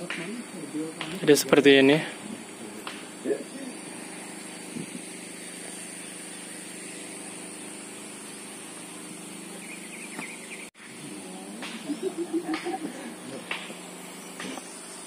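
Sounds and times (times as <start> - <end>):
high-pitched hiss: 0.0 - 15.0
small engine running: 0.0 - 15.0.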